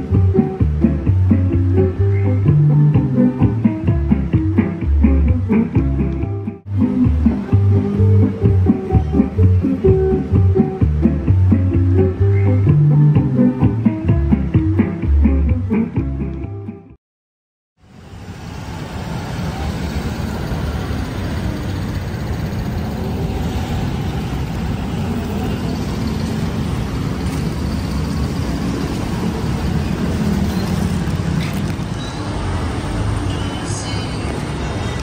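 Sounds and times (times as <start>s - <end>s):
road traffic rumble: 0.0s - 16.9s, 17.8s - 35.0s.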